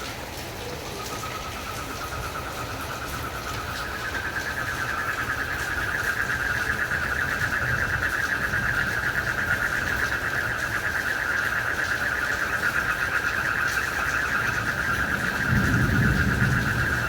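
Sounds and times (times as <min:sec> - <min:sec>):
frogs and crickets trilling: 0:00.0 - 0:17.0.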